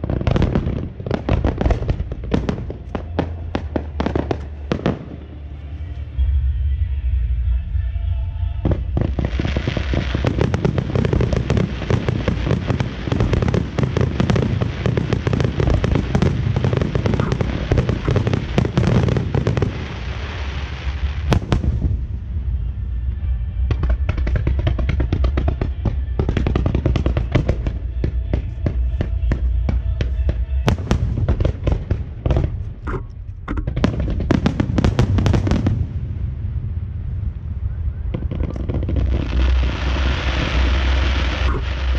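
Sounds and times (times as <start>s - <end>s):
fireworks crackling and popping: 0.0s - 6.1s, 8.6s - 41.9s.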